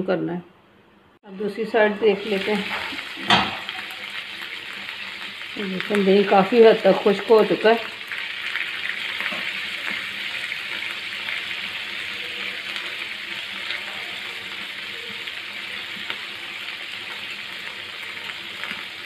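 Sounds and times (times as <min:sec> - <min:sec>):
meat sizzling in oil: 0:01.3 - 0:19.0.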